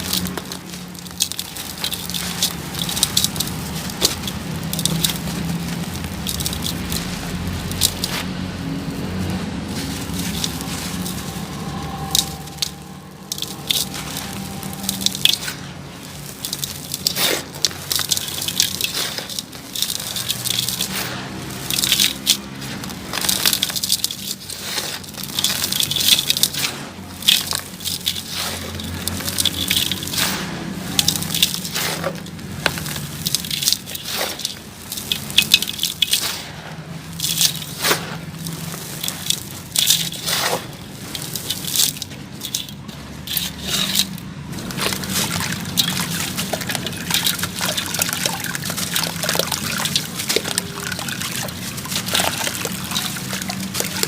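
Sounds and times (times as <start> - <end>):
cement chunks crunching: 0.0 - 54.0
wet squishy sounds: 0.0 - 54.0.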